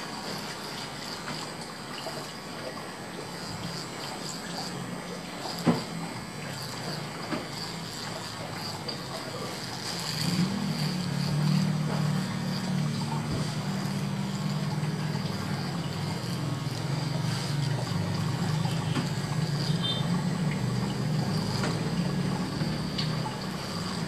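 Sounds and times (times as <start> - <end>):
small electric motor buzzing: 0.0 - 24.0.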